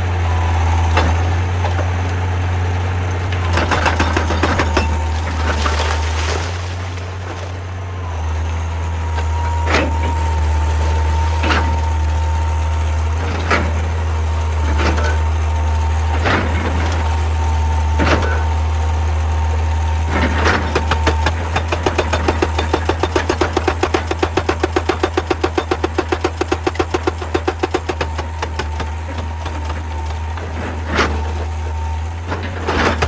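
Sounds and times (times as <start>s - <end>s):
excavator diesel engine running: 0.0s - 33.0s
hydraulic whine: 0.0s - 33.0s.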